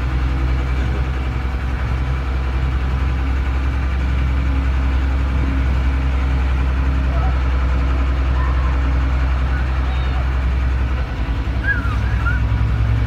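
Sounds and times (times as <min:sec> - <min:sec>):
diesel truck engine humming: 0:00.0 - 0:13.0.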